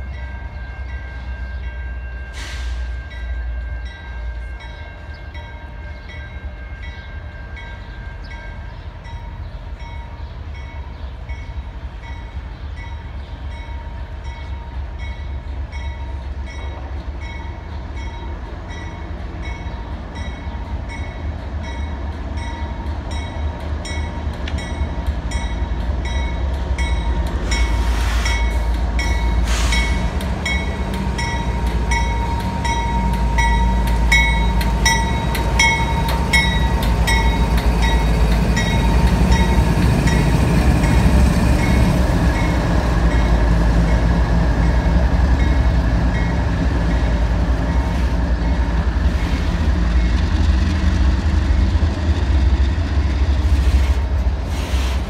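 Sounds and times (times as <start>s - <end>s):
locomotive bell ringing: 0.0s - 50.2s
diesel locomotives rumbling past: 0.0s - 55.0s
train wheel noise: 0.0s - 55.0s.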